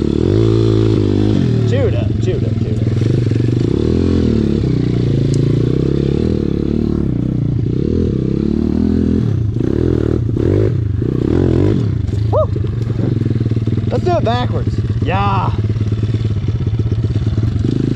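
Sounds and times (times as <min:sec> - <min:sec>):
motorbike engine revving: 0:00.0 - 0:17.9.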